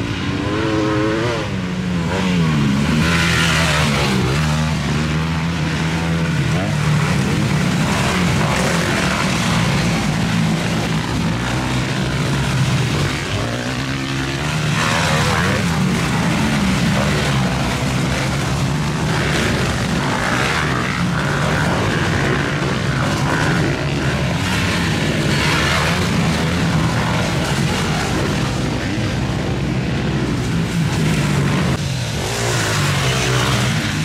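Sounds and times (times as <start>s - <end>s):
motorbike engines revving: 0.0s - 34.0s.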